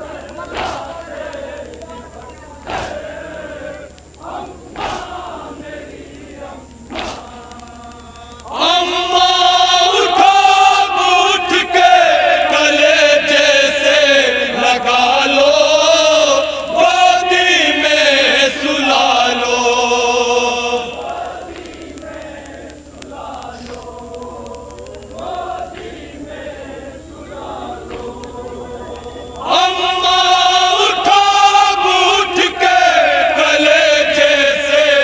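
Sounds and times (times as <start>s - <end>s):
faint voices: 0.0s - 35.0s
men chanting in unison: 0.0s - 35.0s.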